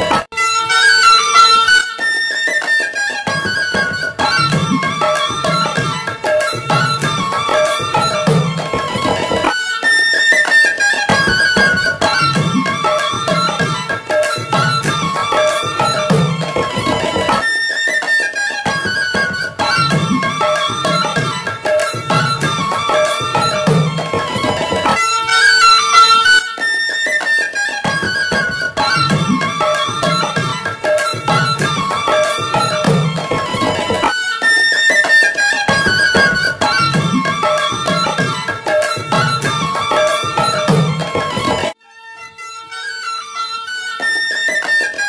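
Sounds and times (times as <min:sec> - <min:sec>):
instrumental music with drum beat: 0:00.0 - 0:41.8.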